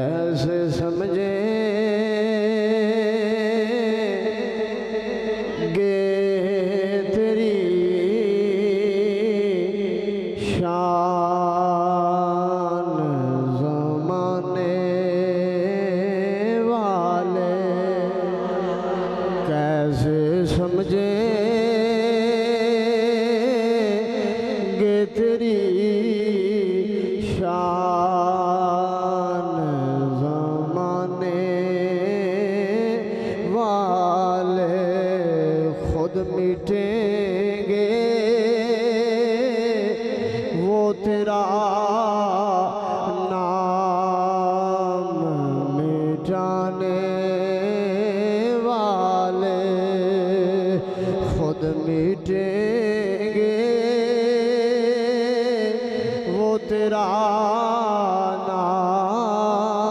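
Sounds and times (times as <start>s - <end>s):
man singing unaccompanied: 0.0s - 59.9s.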